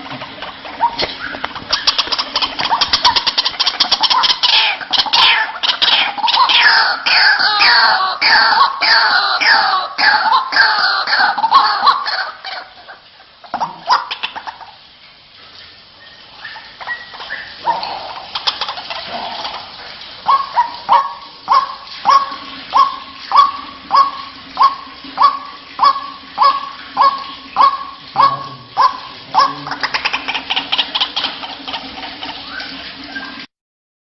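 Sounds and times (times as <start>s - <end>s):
waterhen calling: 0.0s - 33.5s.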